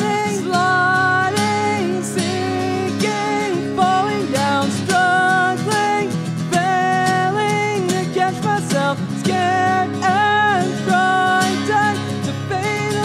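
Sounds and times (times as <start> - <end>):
strummed acoustic guitar: 0.0 - 13.0
woman singing: 0.0 - 13.0.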